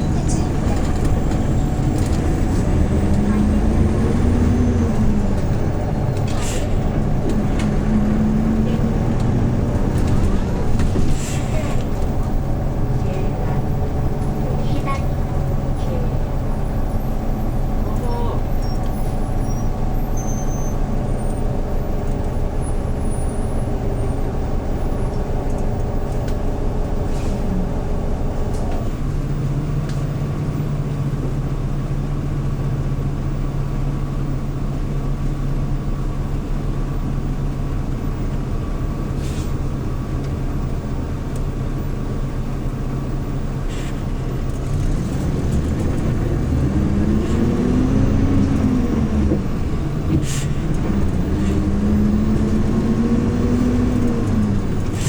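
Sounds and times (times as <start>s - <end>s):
bus engine drone from inside: 0.0s - 55.0s.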